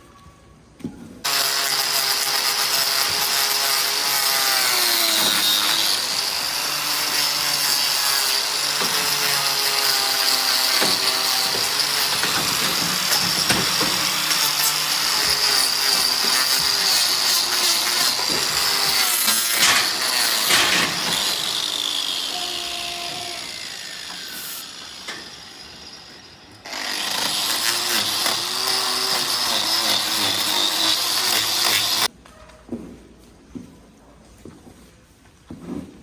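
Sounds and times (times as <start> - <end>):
power tool whining: 1.3 - 32.1.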